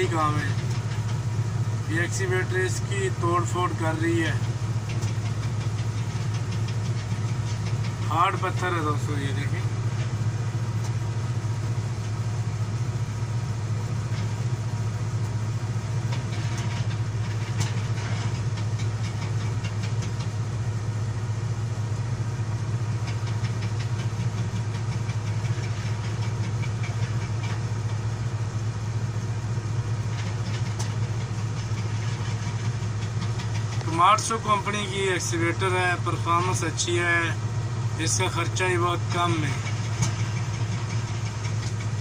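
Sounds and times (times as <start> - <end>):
excavator diesel engine drone: 0.0 - 42.0.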